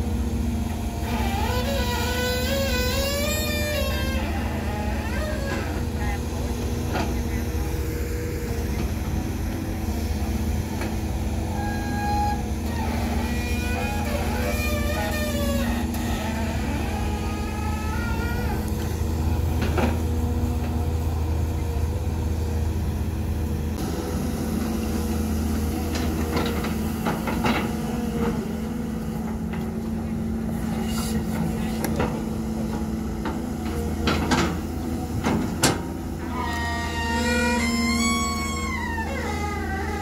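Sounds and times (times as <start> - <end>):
heavy diesel engines running: 0.0 - 40.0.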